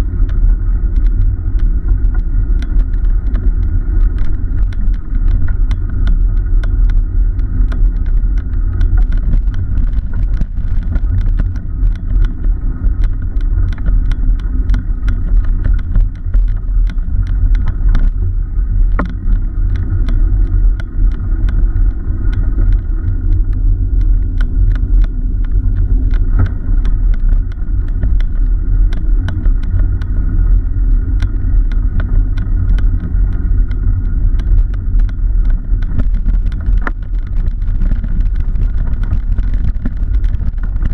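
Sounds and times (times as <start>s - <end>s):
road rumble: 0.0s - 40.9s
small clicks and rattles: 0.0s - 40.9s
wind noise: 0.0s - 40.9s.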